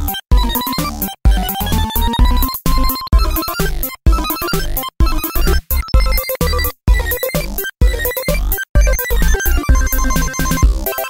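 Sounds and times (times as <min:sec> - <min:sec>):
upbeat electronic music: 0:00.0 - 0:11.0.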